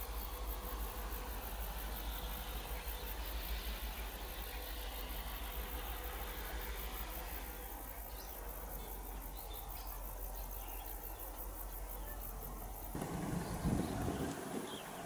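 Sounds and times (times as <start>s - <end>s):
insects chirring in pulses: 0.0s - 15.0s.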